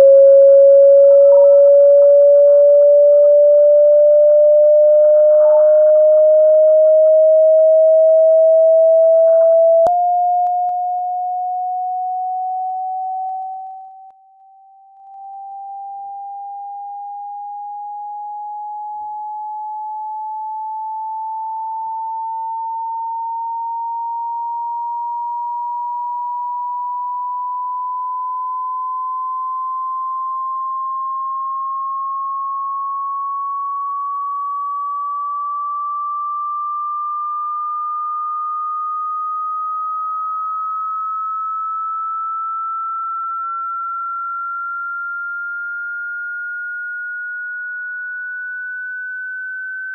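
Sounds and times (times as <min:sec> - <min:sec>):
sine tone sweeping upward: 0:00.0 - 0:49.9.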